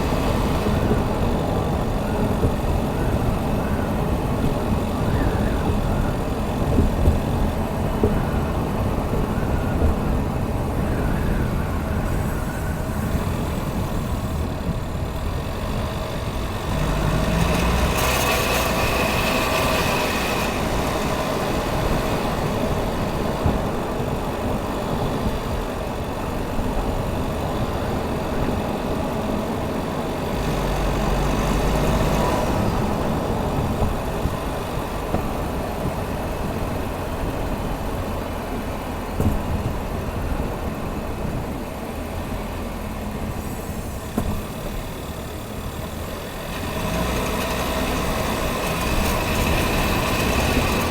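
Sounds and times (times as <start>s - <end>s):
car engine low rumble: 0.0s - 50.9s.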